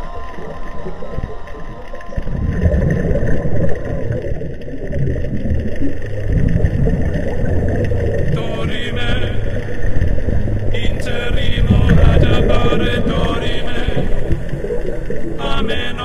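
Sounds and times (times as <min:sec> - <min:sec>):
underwater rumble: 0:00.0 - 0:16.0.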